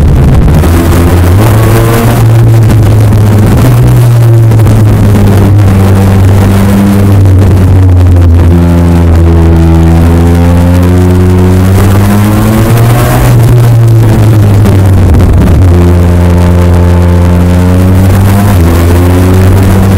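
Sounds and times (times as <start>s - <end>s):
motorcycle engine while riding: 0.0s - 19.9s.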